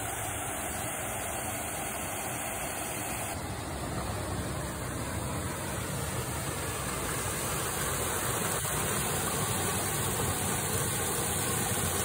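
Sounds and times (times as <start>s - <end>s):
small waterfall splashing: 0.0s - 12.0s.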